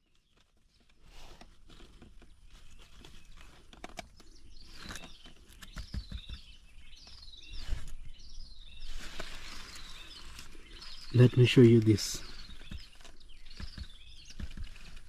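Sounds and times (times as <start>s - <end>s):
nestling birds chirping: 0.0s - 15.0s.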